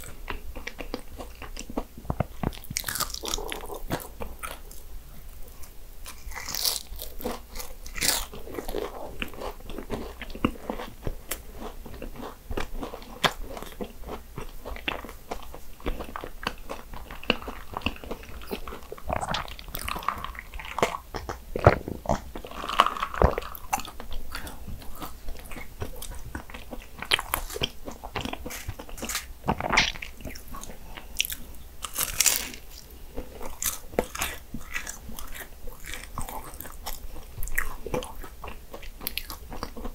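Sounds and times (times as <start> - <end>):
pastry crust crunching: 0.0 - 4.8, 6.0 - 38.3
biting and chewing pastry: 0.0 - 39.9.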